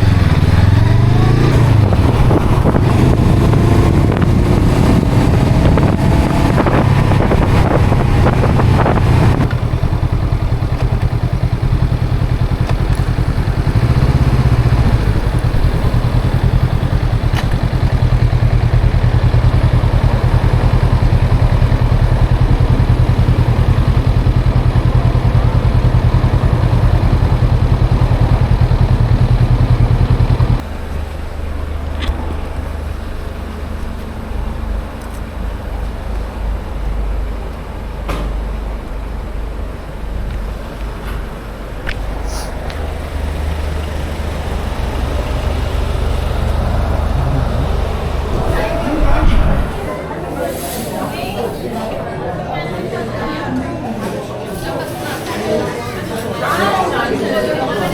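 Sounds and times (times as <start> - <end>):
motorcycle engine and exhaust: 0.0 - 49.9.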